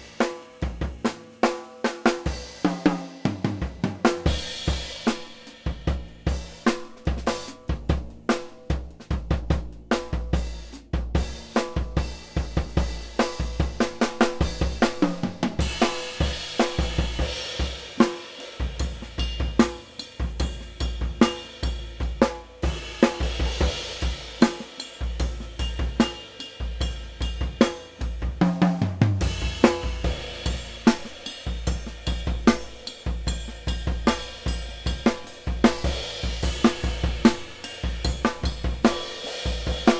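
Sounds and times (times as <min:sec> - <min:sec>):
drum kit playing a groove: 0:00.0 - 0:39.9.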